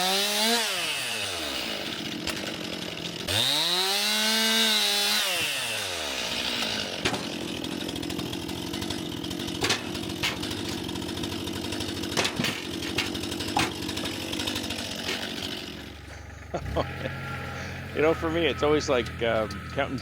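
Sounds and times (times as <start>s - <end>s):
chainsaw idling: 0.0s - 20.0s.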